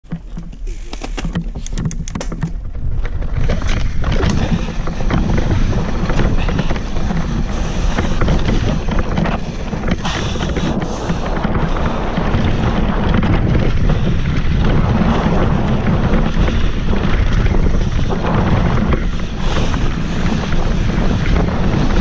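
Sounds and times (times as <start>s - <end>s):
bike clicks and rattles: 0.0s - 22.0s
tyre noise on dirt: 0.0s - 22.0s
wind buffeting microphone: 0.0s - 22.0s.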